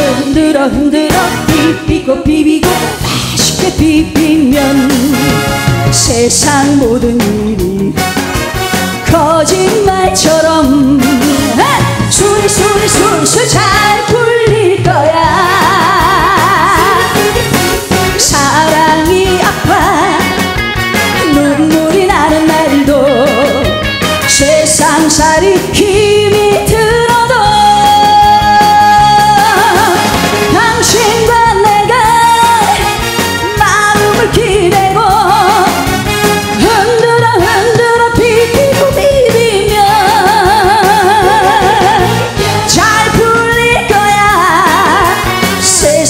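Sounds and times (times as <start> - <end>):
woman singing with vibrato: 0.0 - 8.1, 9.1 - 20.5, 21.1 - 35.9, 36.6 - 46.0
band playing: 0.0 - 46.0.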